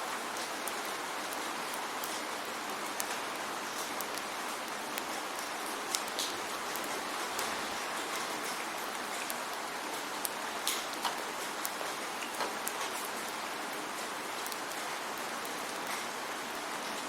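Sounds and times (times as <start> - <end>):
close drips and patters: 0.0 - 17.0
steady rain falling: 0.0 - 17.0.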